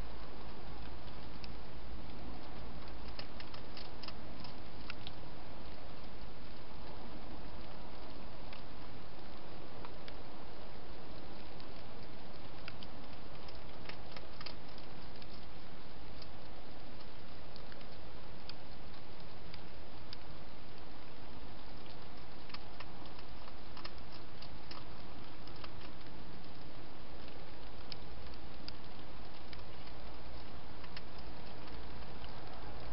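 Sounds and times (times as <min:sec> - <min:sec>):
steady hiss: 0:00.0 - 0:32.9
hedgehog crunching food: 0:00.1 - 0:32.9.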